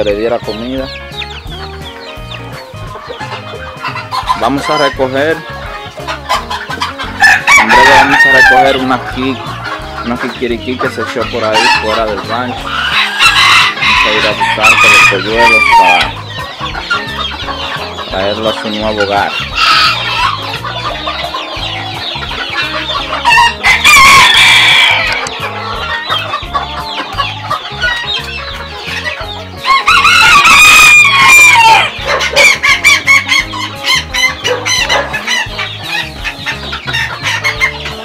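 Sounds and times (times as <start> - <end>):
hens clucking: 0.0 - 38.0
roosters crowing: 0.0 - 38.0.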